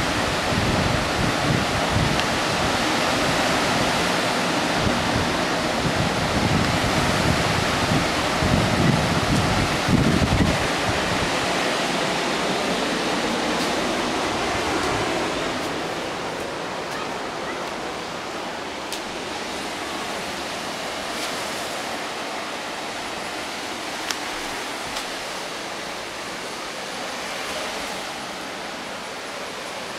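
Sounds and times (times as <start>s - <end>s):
ocean surf breaking on beach: 0.0s - 29.9s.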